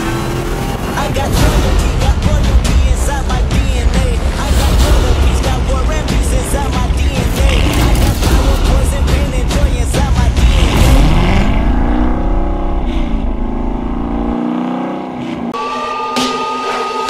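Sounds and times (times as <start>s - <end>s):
car engine revving hard: 0.0s - 15.6s.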